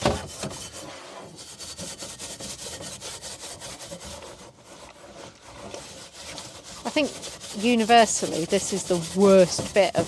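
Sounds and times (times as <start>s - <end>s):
wire brush scrubbing grill grate: 0.0s - 10.0s.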